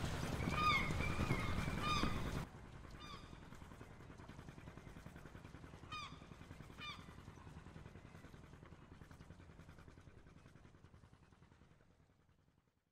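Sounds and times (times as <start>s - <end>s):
faint low outdoor rumble: 0.0s - 12.7s.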